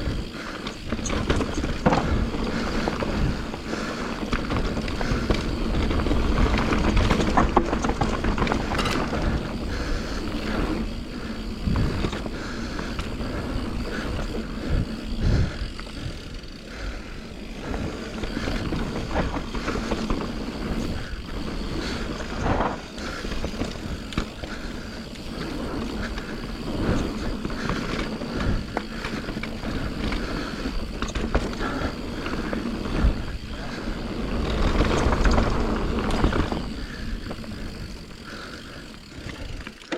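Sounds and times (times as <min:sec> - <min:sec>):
bike knocking and clattering: 0:00.0 - 0:39.9
bike tyres rolling over dirt: 0:00.0 - 0:39.9.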